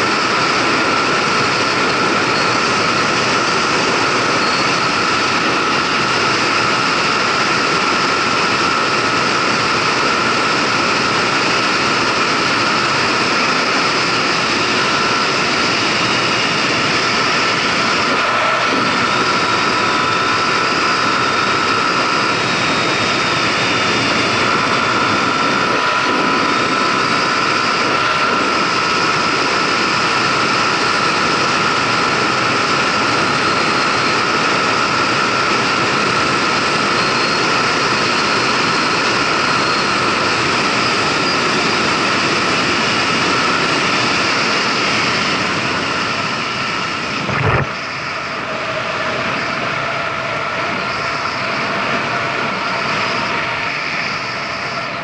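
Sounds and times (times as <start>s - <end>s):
steady whine: 0.0s - 55.0s
wind rush on microphone: 0.0s - 55.0s.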